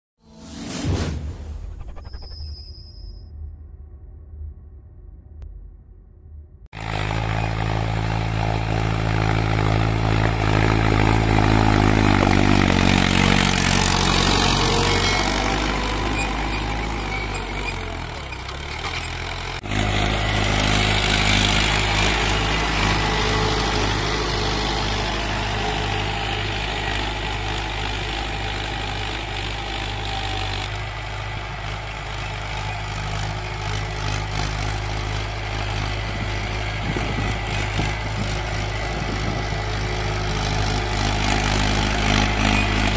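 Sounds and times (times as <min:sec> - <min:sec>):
tractor diesel engine running: 0:06.7 - 0:42.9.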